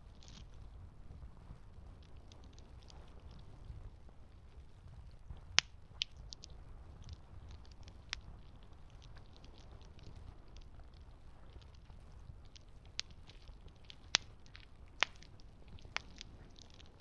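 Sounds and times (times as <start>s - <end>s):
campfire crackling: 1.8s - 17.0s.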